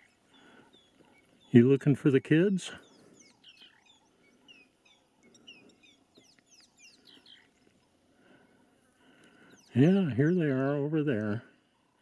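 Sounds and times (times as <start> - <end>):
faint bird calls: 0.0 - 12.0.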